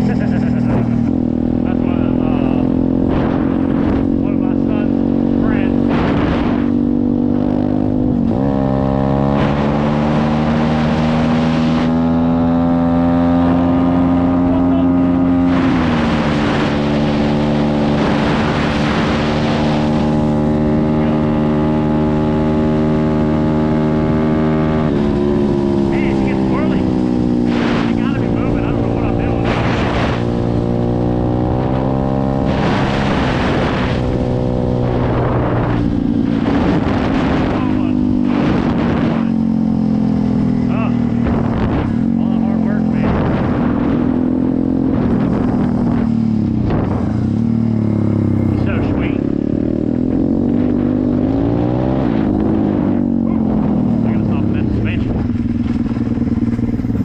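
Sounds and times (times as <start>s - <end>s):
wind on microphone: 0.0s - 21.9s, 23.2s - 39.7s, 40.3s - 57.0s
motorbike engine revving high: 0.0s - 57.0s.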